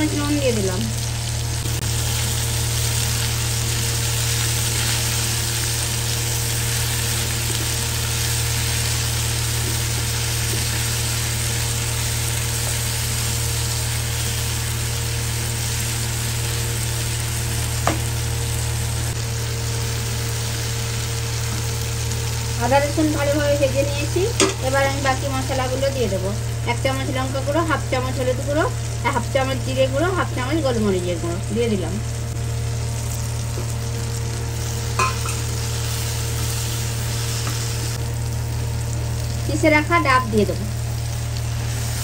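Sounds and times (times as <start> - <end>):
vegetables sizzling in hot oil: 0.0 - 42.0.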